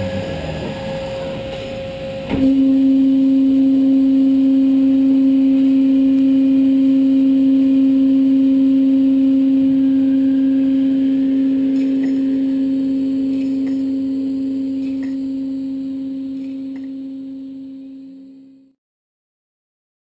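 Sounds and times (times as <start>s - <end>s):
drilling machine low hum: 0.0s - 18.8s.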